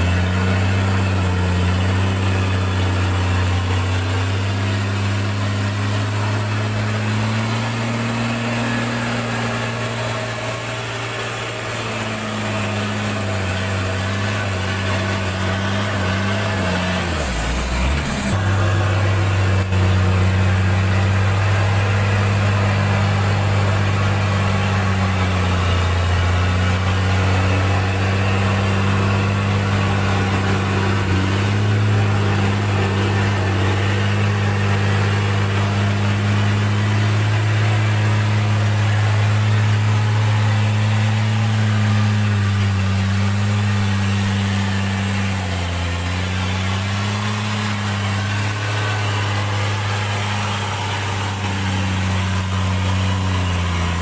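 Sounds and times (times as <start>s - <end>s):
diesel truck engine under load: 0.0s - 54.0s.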